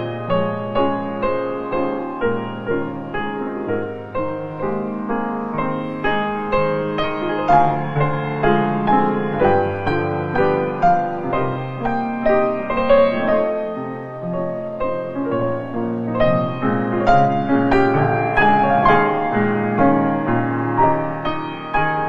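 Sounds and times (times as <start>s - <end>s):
slow piano notes and chords: 0.0s - 22.0s.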